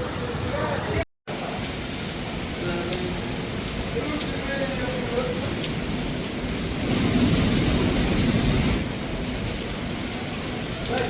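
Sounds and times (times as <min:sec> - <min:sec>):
heavy rain: 0:00.0 - 0:11.0
thunder rumbling: 0:01.4 - 0:11.0.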